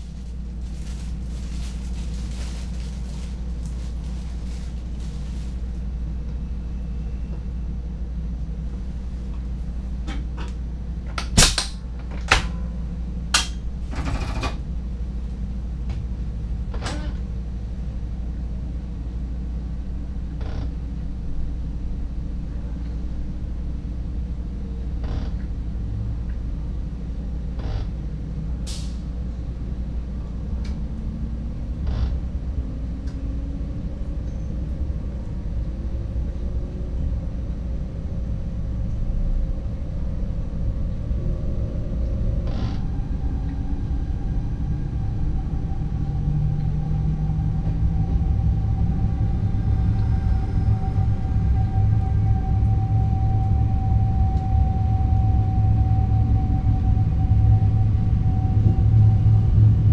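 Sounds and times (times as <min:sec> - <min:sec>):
train cab low hum: 0:00.0 - 0:59.9.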